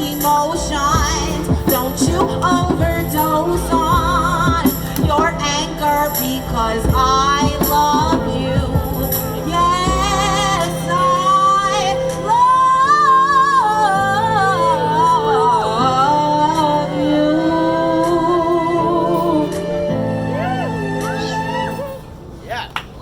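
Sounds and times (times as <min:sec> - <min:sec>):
woman singing with vibrato: 0:00.0 - 0:22.2
backing chords: 0:00.0 - 0:22.3.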